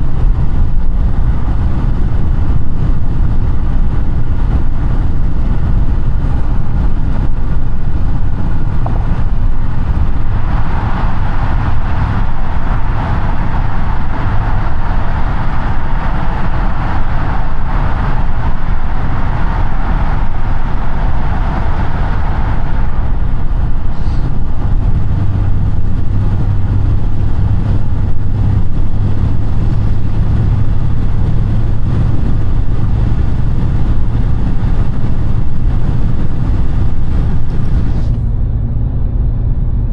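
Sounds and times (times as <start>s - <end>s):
car engine and road rumble: 0.0s - 39.9s
steady low hum: 0.0s - 39.9s
road hiss: 2.4s - 32.2s, 32.8s - 38.4s.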